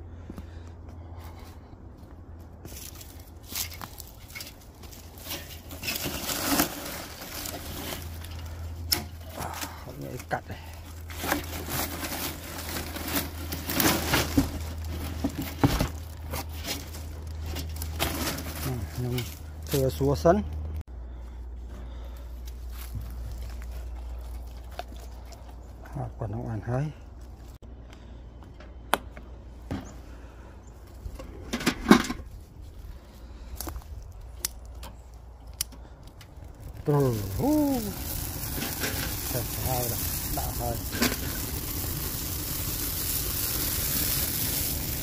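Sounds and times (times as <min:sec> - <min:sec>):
twigs and paper rustling and crackling: 0:02.4 - 0:20.8, 0:21.8 - 0:27.6, 0:32.3 - 0:45.0.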